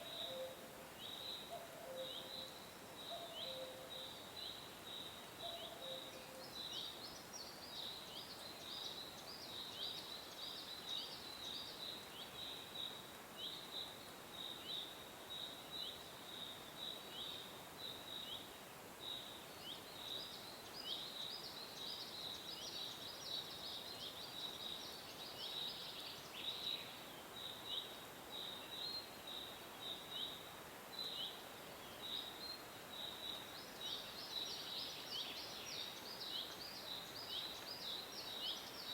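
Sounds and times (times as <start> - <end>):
faint hiss: 6.1 - 38.9.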